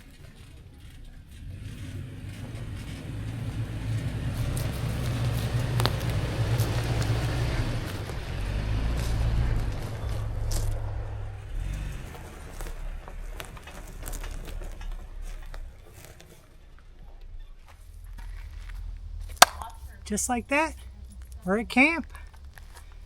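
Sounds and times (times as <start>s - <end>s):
tyre and road noise: 0.0s - 23.0s.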